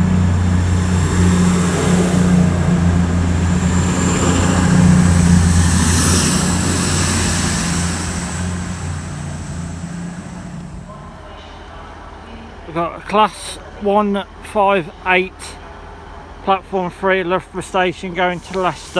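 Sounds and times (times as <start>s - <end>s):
diesel train engines droning: 0.0s - 18.9s.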